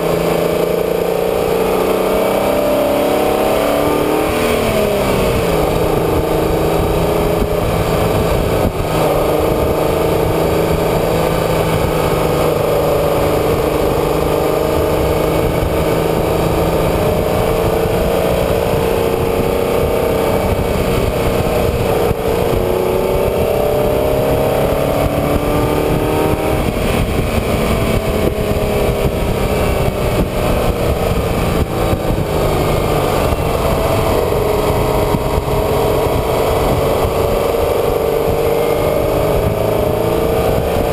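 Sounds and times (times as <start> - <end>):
road and wind noise: 0.0 - 40.9
vehicle engine revving: 0.0 - 40.9.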